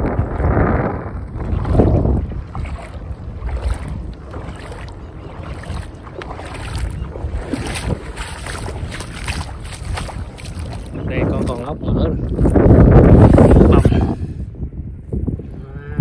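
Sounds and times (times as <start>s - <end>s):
wind buffeting microphone: 0.0s - 16.0s
seawater sloshing: 0.3s - 13.9s.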